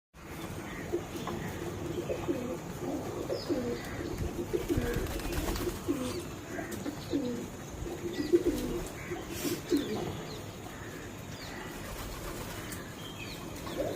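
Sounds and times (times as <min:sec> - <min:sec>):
pigeons cooing: 0:00.6 - 0:13.9.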